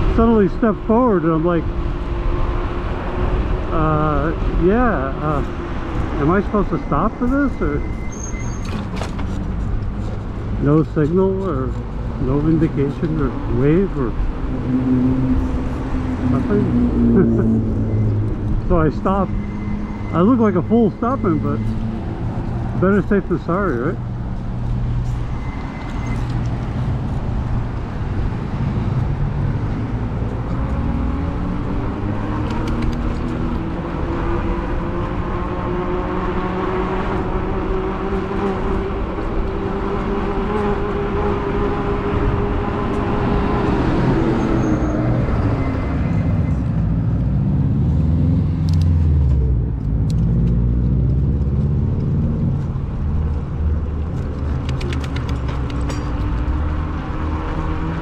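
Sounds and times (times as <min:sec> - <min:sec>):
steady low traffic rumble: 0:00.0 - 0:58.0
vehicle engines pulling away: 0:00.0 - 0:58.0.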